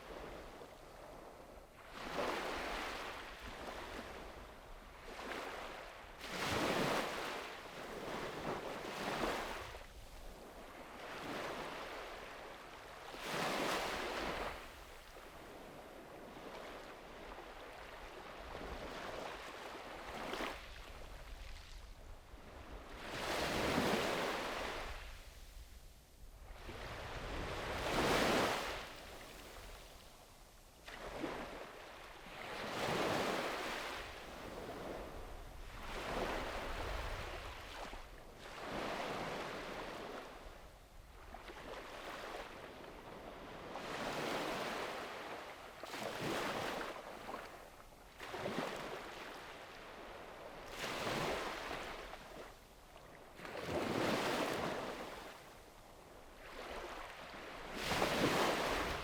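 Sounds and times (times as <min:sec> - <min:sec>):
small waves breaking on sand: 0:00.0 - 0:25.8, 0:26.4 - 0:59.0.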